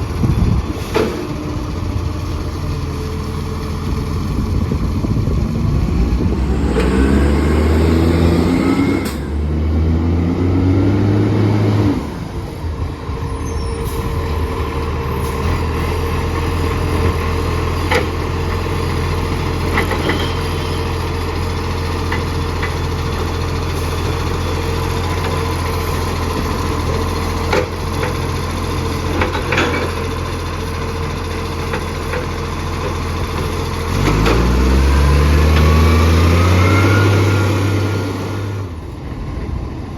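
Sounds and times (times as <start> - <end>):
diesel truck engine revving: 0.0 - 39.7.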